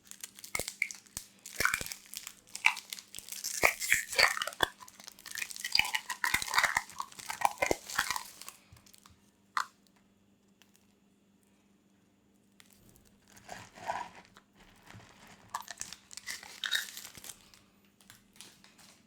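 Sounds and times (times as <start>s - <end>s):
crunchy food being chewed: 0.0s - 9.8s, 12.6s - 19.0s.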